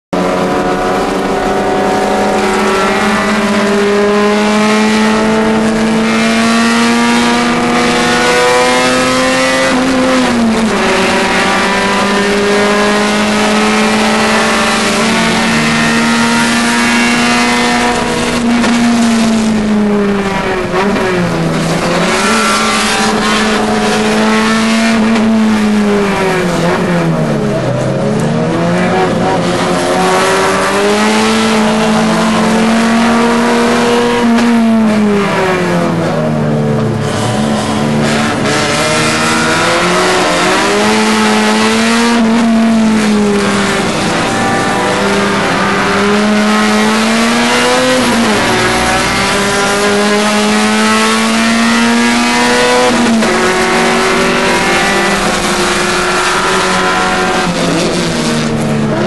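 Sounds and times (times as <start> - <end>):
car engine running hard: 0.1 - 59.0.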